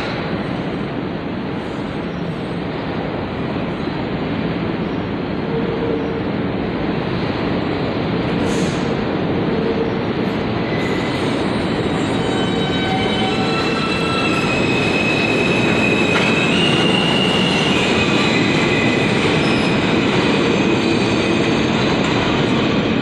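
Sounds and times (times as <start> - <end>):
subway train wheels rumbling: 0.0 - 23.0.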